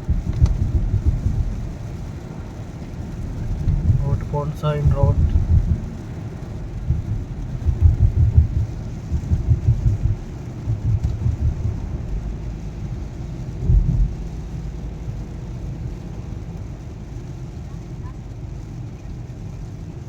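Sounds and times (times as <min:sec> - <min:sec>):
car road noise: 0:00.0 - 0:20.0
low rumbling: 0:00.0 - 0:20.0
rain hissing: 0:00.0 - 0:20.0.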